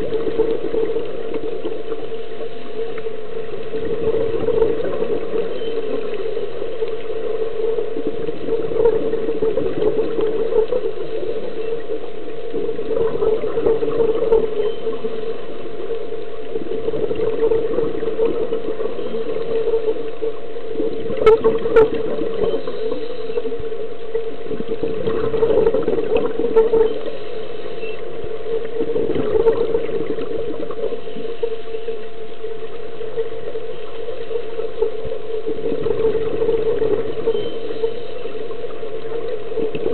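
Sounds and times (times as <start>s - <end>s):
scuba bubbles gurgling: 0.0s - 39.9s
underwater hum: 0.0s - 39.9s.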